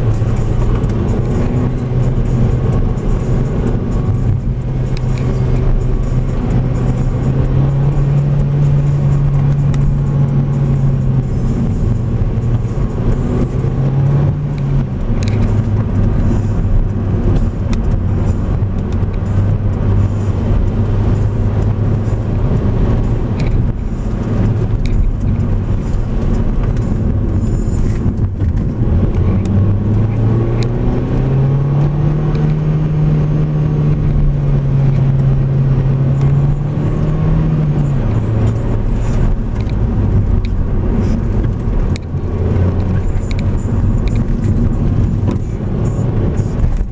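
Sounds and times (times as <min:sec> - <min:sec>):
car engine: 0:00.0 - 0:46.9.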